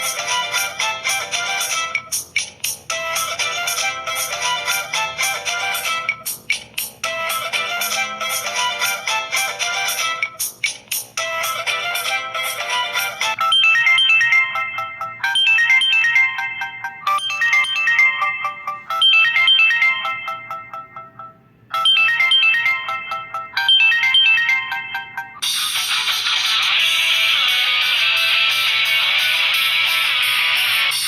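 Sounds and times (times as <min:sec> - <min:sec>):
electronic phone ringtone melody: 0:00.0 - 0:31.0.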